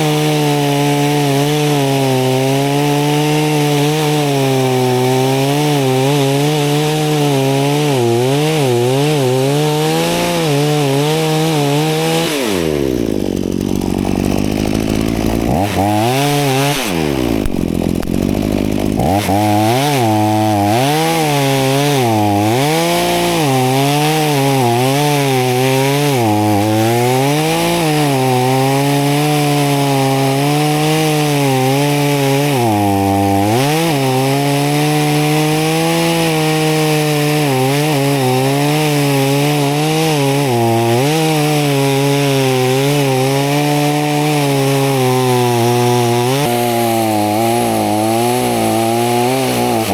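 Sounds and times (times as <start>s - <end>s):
chainsaw cutting branches: 0.0s - 49.9s.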